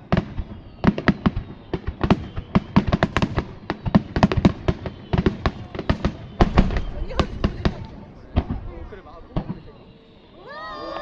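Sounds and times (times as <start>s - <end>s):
fireworks bursting: 0.0s - 10.8s.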